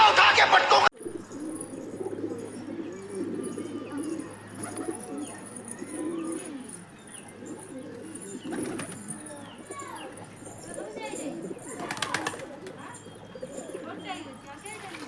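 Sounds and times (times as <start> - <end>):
high bird chirps: 1.0 - 15.0
pigeons cooing: 1.0 - 15.0.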